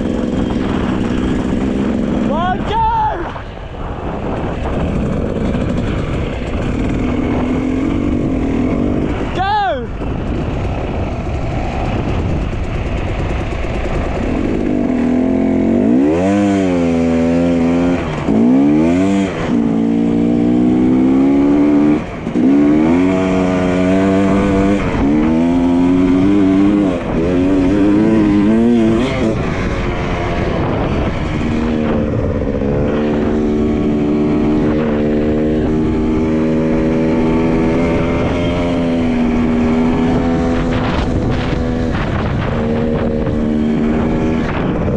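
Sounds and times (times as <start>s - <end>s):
dirt bike engine revving: 0.0s - 44.9s
wind noise on microphone: 0.0s - 44.9s.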